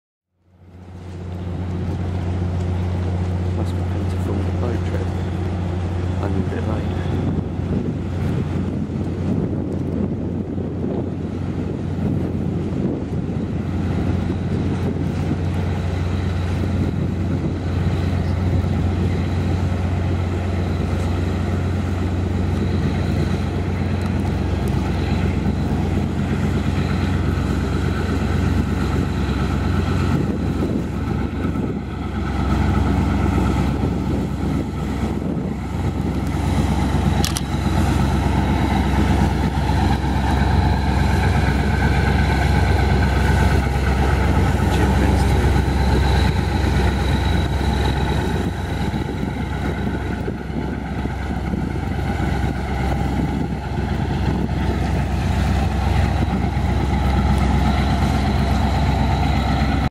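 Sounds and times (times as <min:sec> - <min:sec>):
diesel engines droning: 0:00.4 - 0:59.9.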